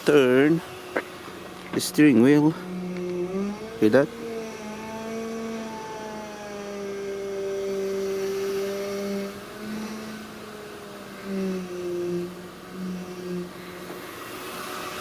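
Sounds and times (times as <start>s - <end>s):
power steering pump whining: 0.0s - 15.0s.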